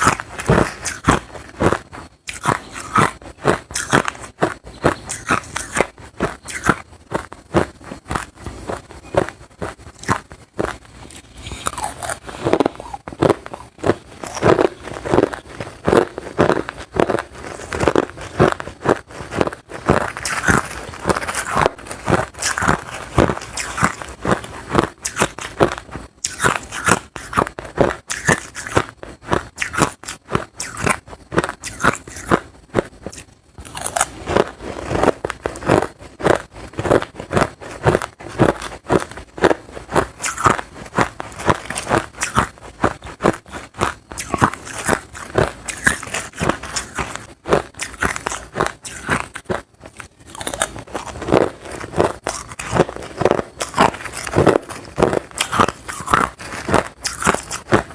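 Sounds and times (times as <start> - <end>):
ice being crunched and chewed: 0.0 - 57.9.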